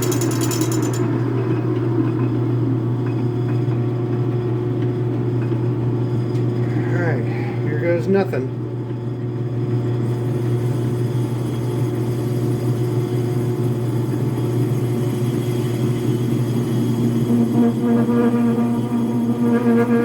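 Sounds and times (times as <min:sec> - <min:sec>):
metal lathe humming: 0:00.0 - 0:02.8, 0:05.2 - 0:20.0.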